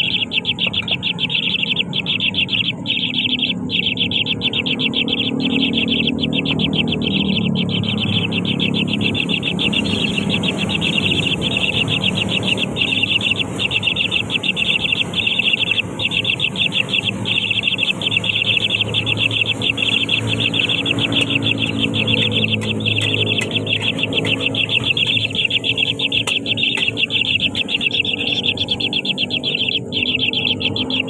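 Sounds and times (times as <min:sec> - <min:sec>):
nestling birds chittering: 0:00.0 - 0:31.0.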